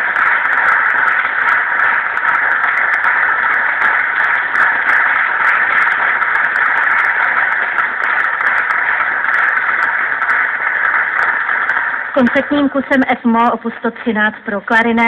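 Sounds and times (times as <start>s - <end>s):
static crackles: 0.0s - 15.0s.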